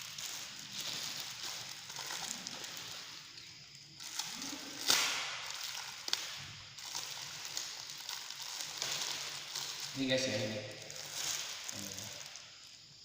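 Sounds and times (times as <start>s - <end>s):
packaging rustling: 0.0s - 3.4s, 4.0s - 12.4s.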